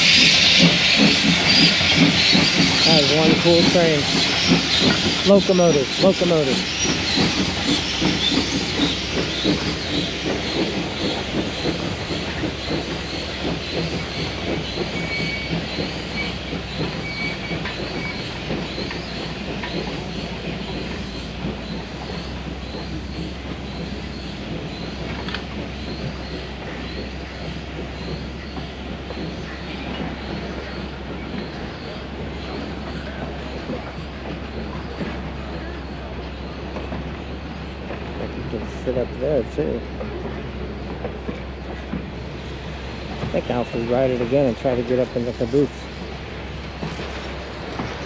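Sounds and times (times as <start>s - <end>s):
train wheels clickety-clack: 0.0s - 48.0s
wheel squeal: 0.0s - 48.0s.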